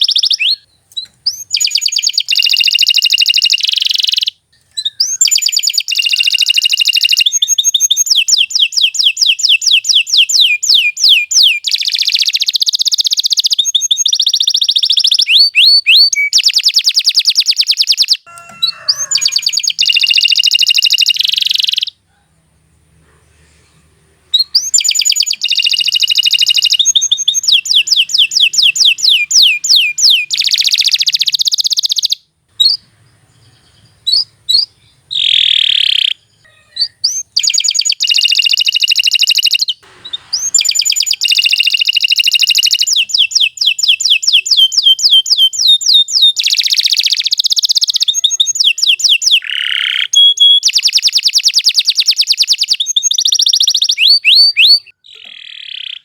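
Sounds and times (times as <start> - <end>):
canary singing trills: 0.0 - 22.2, 24.2 - 56.0.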